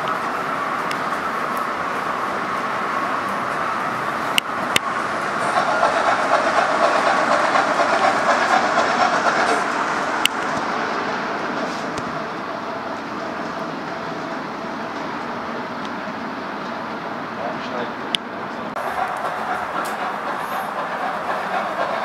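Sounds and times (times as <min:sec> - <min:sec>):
model steam locomotive running: 0:00.0 - 0:22.0.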